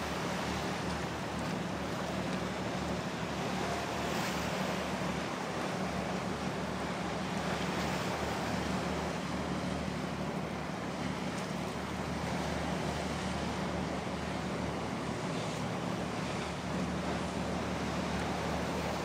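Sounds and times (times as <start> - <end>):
sea water wash: 0.0 - 19.0
ship engine drone: 0.0 - 19.0
wind: 0.0 - 19.0.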